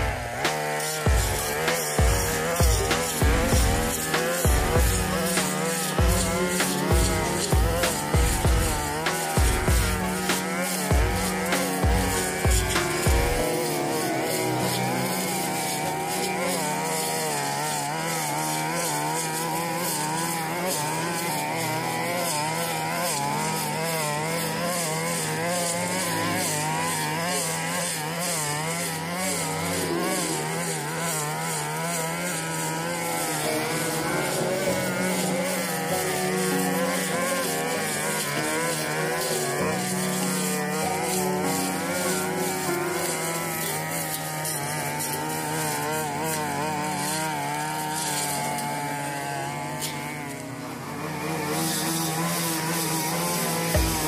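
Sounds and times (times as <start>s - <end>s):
blade cutting thick grass: 0.0s - 54.0s
brush cutter engine high revs: 0.0s - 54.0s.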